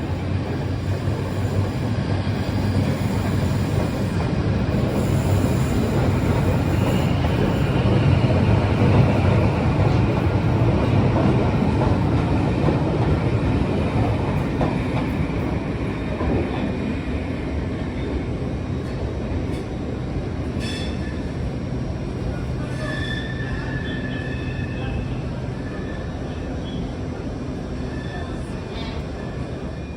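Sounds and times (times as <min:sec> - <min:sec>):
diesel locomotive engine drone: 0:00.0 - 0:29.9.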